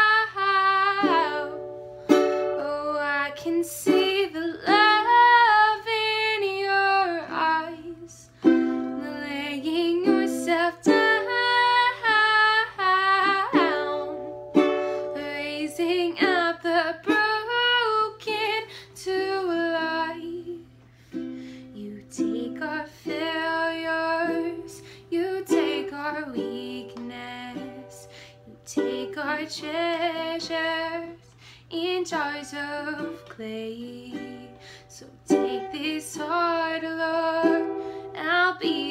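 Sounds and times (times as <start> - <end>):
woman singing: 0.0 - 20.8, 21.6 - 38.9
ukulele picked and strummed: 0.0 - 31.1, 31.8 - 38.9.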